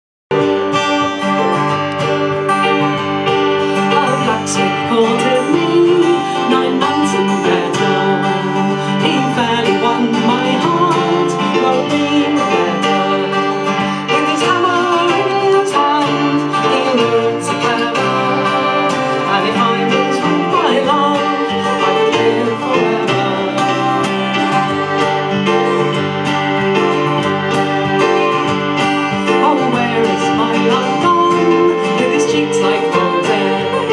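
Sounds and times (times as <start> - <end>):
acoustic guitar: 0.3 - 33.9
fiddle: 0.3 - 33.9
keyboard: 0.3 - 33.9.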